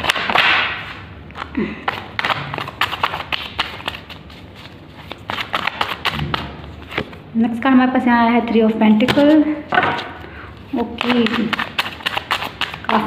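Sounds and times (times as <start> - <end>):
cards being shuffled: 0.0 - 7.2, 9.0 - 13.0.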